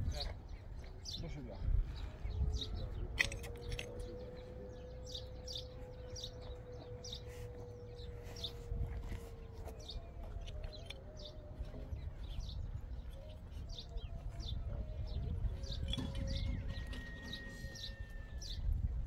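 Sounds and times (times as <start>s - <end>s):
bird chirping: 0.0s - 18.8s.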